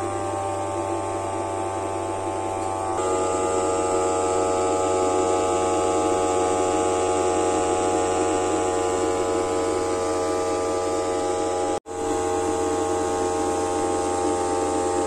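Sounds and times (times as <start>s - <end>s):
small electric fan whining: 0.0s - 15.0s.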